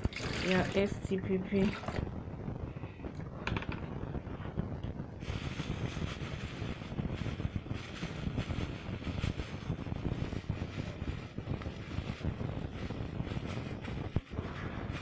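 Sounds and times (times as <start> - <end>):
wind buffeting microphone: 0.2 - 15.0.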